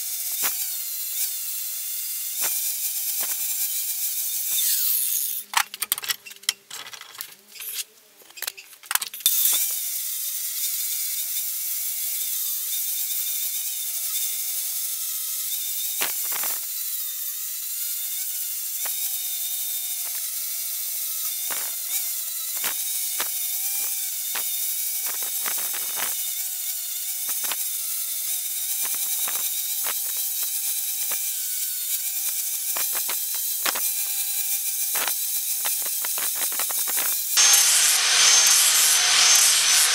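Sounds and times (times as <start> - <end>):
angle grinder grinding steel: 0.0 - 8.6, 9.2 - 39.9.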